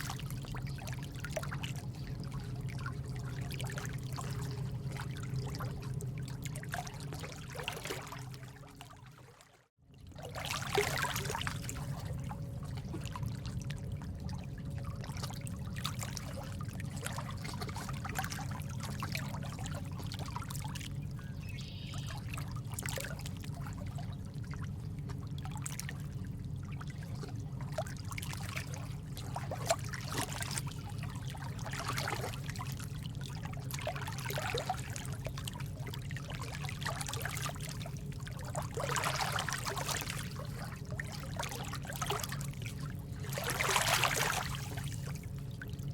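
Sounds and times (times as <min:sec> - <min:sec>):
water drips and splashes: 0:00.0 - 0:21.3, 0:21.9 - 0:45.9.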